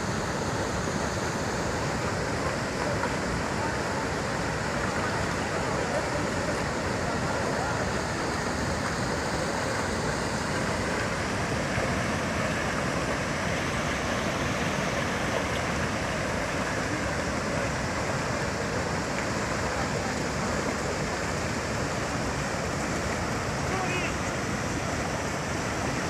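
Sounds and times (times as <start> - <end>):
debris flow of mud and water rushing: 0.0 - 26.0.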